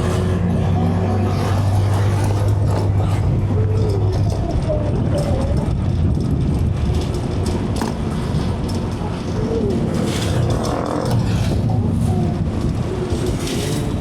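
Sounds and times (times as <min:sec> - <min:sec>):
car rumbling on the move: 0:00.0 - 0:14.0.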